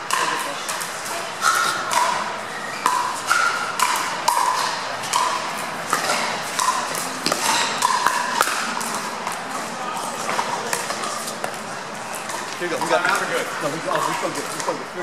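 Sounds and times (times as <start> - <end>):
paddles striking plastic balls: 0.0 - 14.8.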